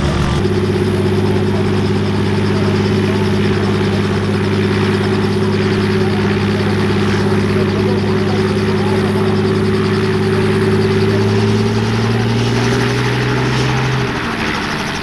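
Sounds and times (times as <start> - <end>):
helicopter engine and rotors droning: 0.0 - 15.0.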